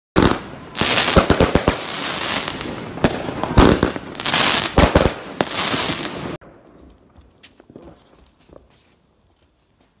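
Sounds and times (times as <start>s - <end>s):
fireworks bangs: 0.2s - 8.7s
fireworks crackling: 0.2s - 9.1s.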